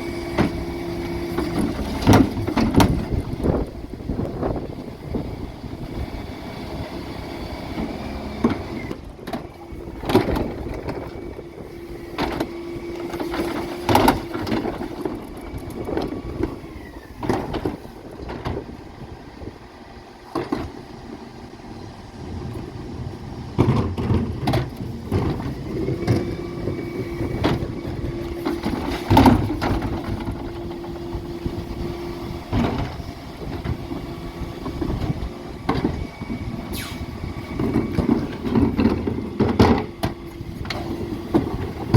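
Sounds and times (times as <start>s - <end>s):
wheelie bins banging: 0.0s - 19.1s, 22.2s - 41.9s
truck hydraulics whining: 0.0s - 41.9s.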